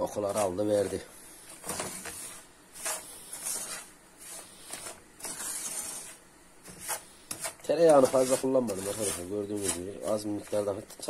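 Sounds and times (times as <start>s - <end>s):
wooden spoon scraping a pan: 0.0s - 11.0s.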